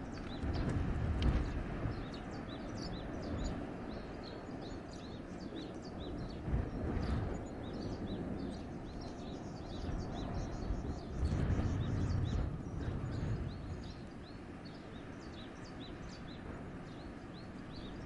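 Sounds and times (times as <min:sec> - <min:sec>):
small birds chirping: 0:00.0 - 0:18.0
wind blowing with low rumble: 0:00.0 - 0:18.0.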